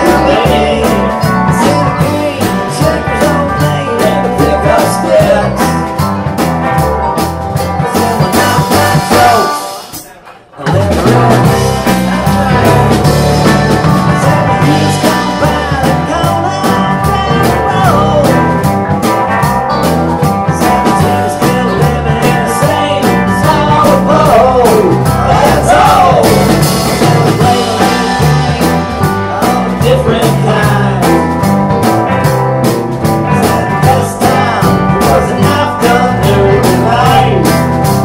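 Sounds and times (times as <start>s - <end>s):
electric guitars: 0.0s - 10.0s, 10.6s - 38.0s
pitch-bending guitar lead line: 0.0s - 10.0s, 10.6s - 38.0s
bass guitar: 0.0s - 38.0s
drum kit beat: 0.0s - 38.0s.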